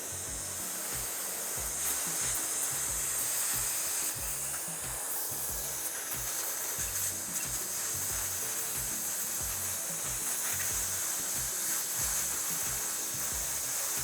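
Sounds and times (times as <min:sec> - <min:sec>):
background music with beat: 0:00.0 - 0:14.0
dental air-water syringe hissing: 0:00.0 - 0:14.0.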